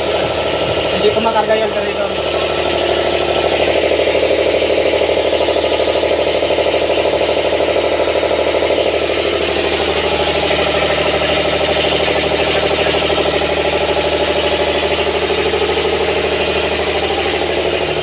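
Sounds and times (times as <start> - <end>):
generator engine running steadily: 0.0 - 18.0.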